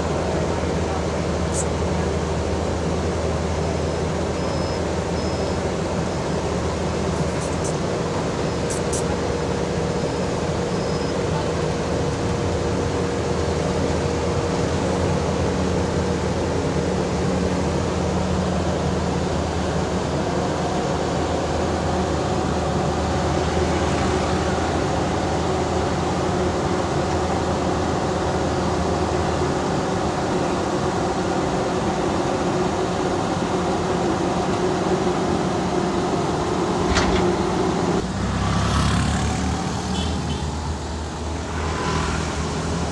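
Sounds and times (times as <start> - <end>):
diesel machinery engine hum: 0.0 - 42.9.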